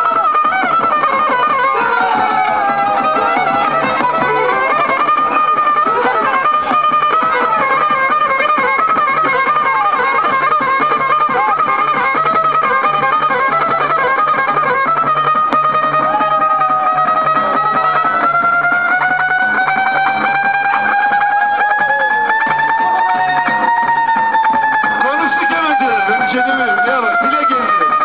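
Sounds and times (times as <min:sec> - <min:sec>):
plucked string instrument melody: 0:00.0 - 0:28.0.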